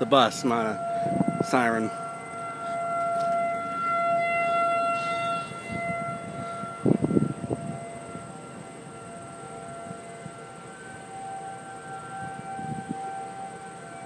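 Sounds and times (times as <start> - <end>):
warning siren steady tone: 0.0 - 14.0.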